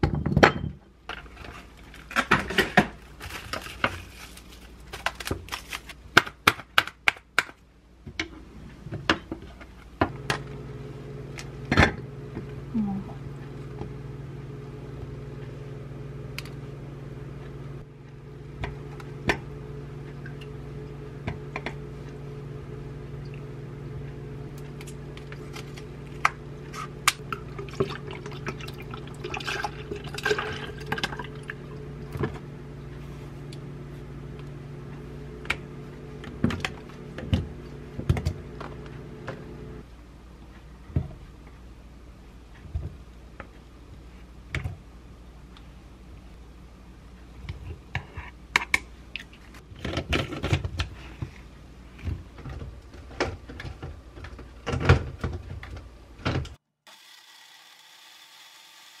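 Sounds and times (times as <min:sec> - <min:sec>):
steady low hum: 0:07.7 - 0:56.6.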